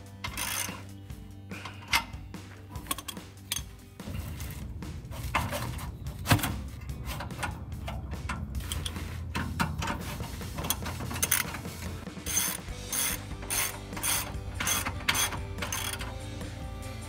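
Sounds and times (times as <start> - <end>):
hand tools clicking on metal: 0.2 - 0.9, 1.5 - 4.6, 5.2 - 16.2.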